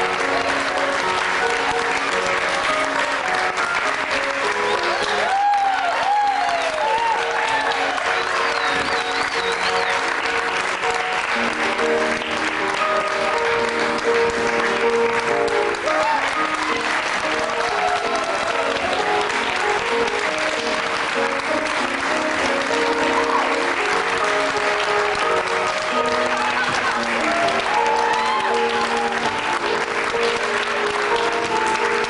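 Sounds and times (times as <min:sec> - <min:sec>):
audience applauding: 0:00.0 - 0:32.0
instrumental music with held notes: 0:00.0 - 0:32.0.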